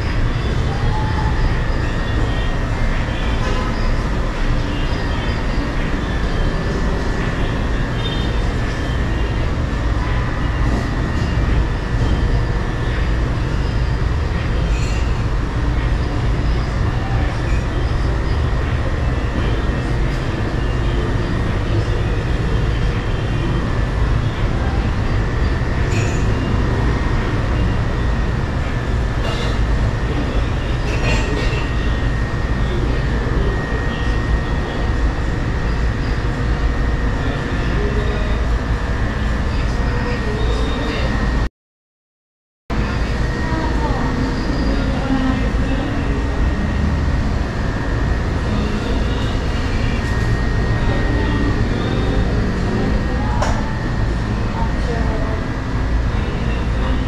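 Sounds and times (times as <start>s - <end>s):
faint high whine: 0.0s - 41.5s, 42.7s - 57.0s
mechanical hum and rumble: 0.0s - 41.5s, 42.7s - 57.0s.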